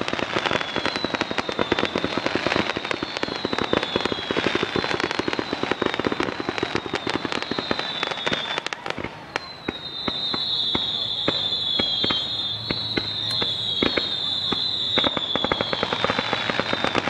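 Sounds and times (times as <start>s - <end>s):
fireworks pops and crackles: 0.0s - 17.0s
high falling whistles: 0.0s - 17.0s.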